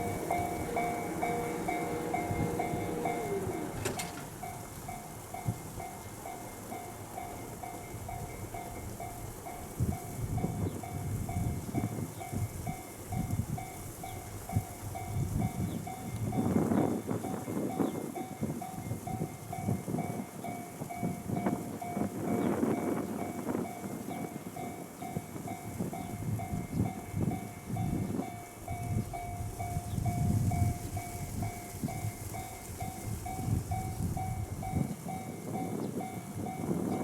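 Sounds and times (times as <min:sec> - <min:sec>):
level-crossing warning bell: 0:00.0 - 0:37.0
train wheels clattering on rails: 0:00.0 - 0:37.0.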